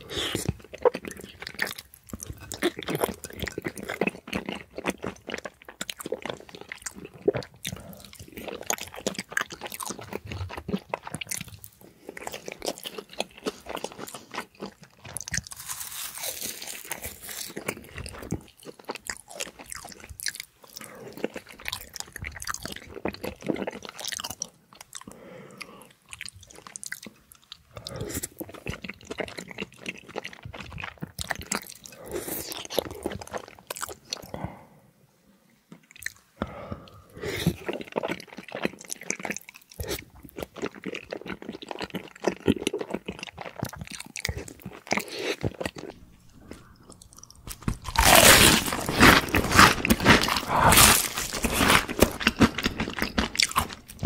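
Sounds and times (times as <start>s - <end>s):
food crunching: 0.0s - 34.3s, 35.7s - 54.0s
man chewing wetly: 0.0s - 34.6s, 35.7s - 54.0s.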